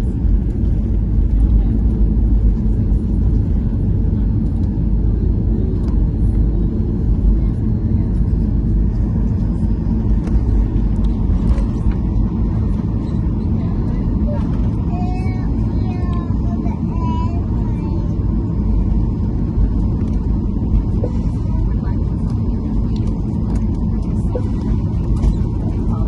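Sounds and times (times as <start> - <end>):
aircraft cabin rumble: 0.0 - 26.0.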